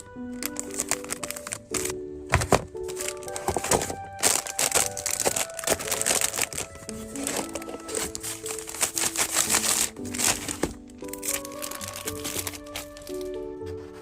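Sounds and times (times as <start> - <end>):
background music of held notes: 0.0 - 14.0
packaging material crinkling: 0.0 - 14.0.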